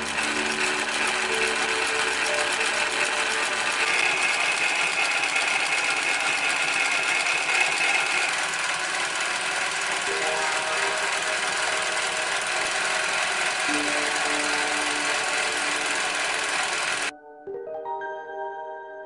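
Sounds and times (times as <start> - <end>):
industrial sewing machine whirring: 0.0 - 17.1.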